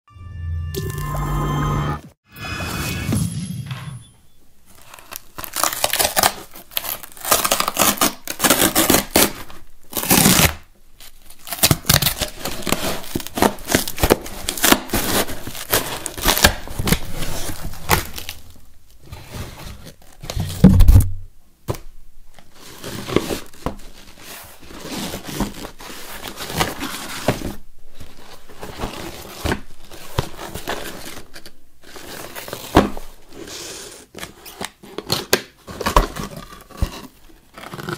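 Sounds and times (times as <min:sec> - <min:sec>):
cardboard rustling and tearing: 0:04.7 - 0:21.1, 0:22.3 - 0:37.9.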